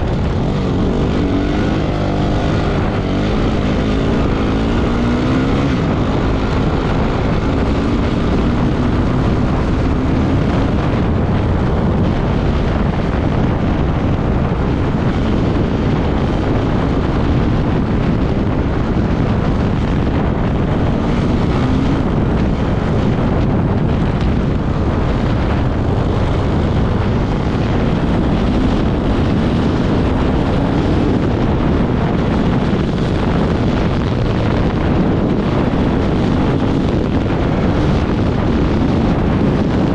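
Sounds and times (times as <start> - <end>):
motorcycle engine running at speed: 0.0 - 39.9
wind buffeting on microphone: 0.0 - 39.9.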